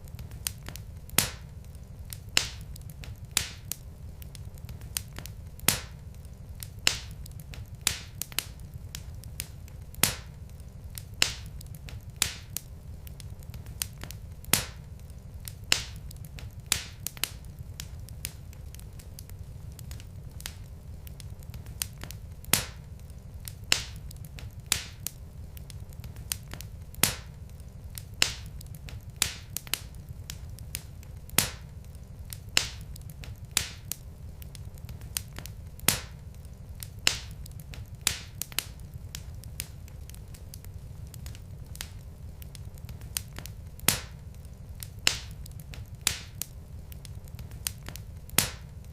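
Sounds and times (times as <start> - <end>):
steady low rumble: 0.0 - 48.9
wood fire crackling and popping: 0.0 - 48.9.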